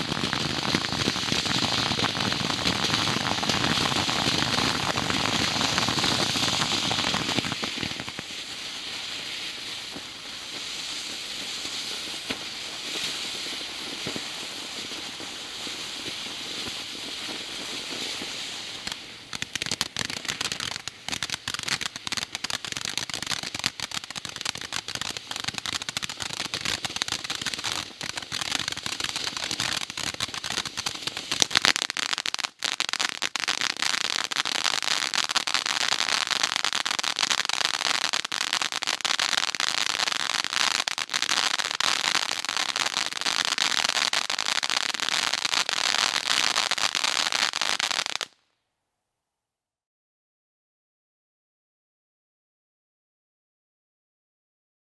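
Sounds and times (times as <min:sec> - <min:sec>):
firework fountain hissing and crackling: 0:00.0 - 0:48.4.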